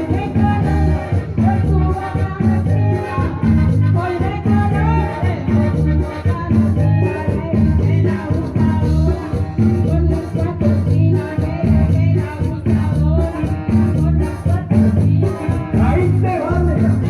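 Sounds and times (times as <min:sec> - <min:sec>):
bouncing bass line: 0:00.0 - 0:17.0
shaker rhythm: 0:00.0 - 0:17.0
upbeat latin dance music: 0:00.0 - 0:17.0.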